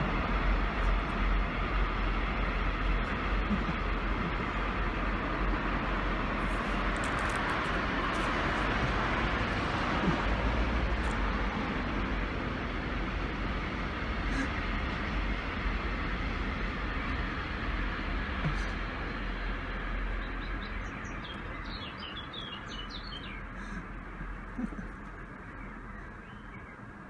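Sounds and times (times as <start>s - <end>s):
road traffic hiss and rumble: 0.0s - 27.0s
vehicle passing by: 0.0s - 27.0s.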